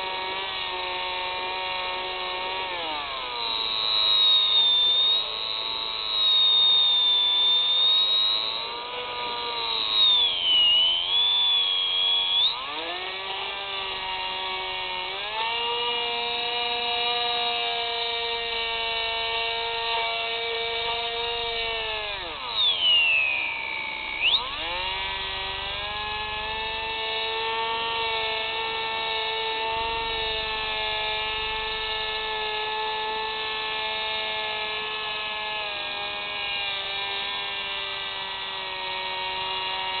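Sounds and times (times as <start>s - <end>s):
model aircraft motor whining: 0.0s - 40.0s.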